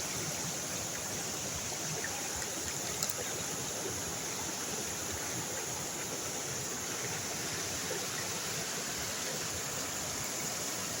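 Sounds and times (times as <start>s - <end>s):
flowing water rushing: 0.0s - 11.0s
steady high hiss: 0.0s - 11.0s.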